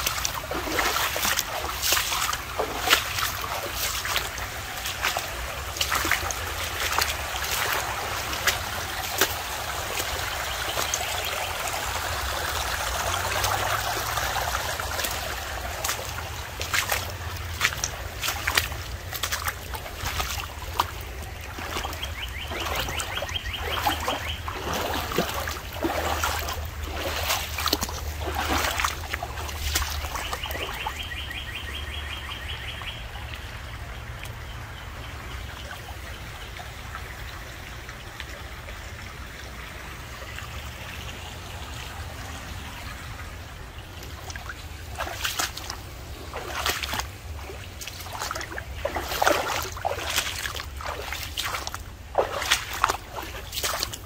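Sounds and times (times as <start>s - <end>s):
water splashing around wading steps: 0.0s - 54.0s
water trickling: 0.0s - 54.0s.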